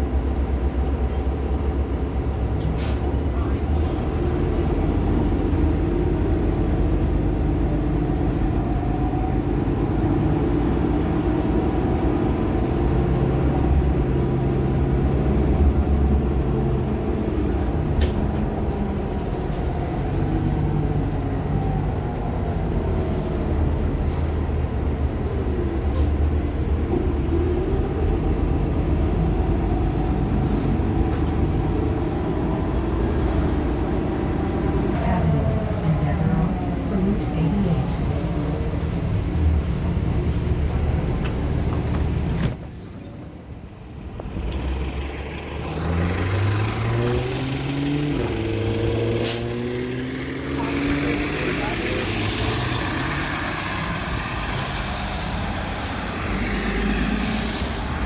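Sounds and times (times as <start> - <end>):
bus engine low rumble: 0.0 - 58.0.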